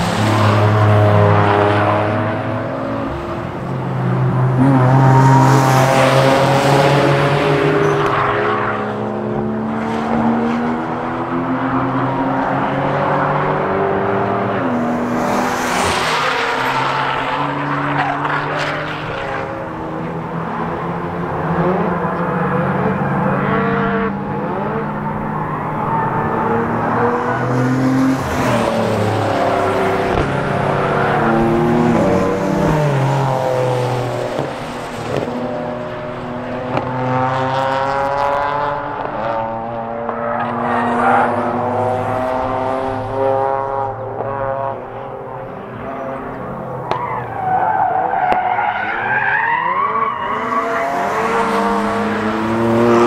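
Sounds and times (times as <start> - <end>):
race car engines passing: 0.0 - 53.0.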